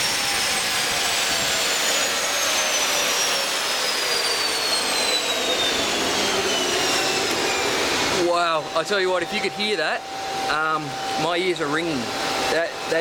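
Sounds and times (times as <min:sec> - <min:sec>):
high turbine whine falling: 0:00.0 - 0:13.0
jet engine roaring: 0:00.0 - 0:13.0.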